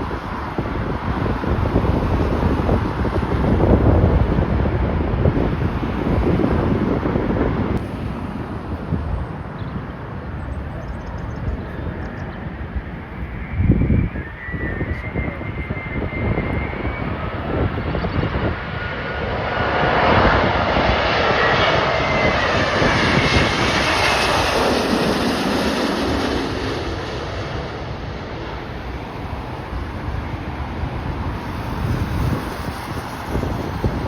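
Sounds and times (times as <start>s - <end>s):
jet airliner engine noise: 0.0s - 34.0s
wind buffeting microphone: 0.0s - 34.0s.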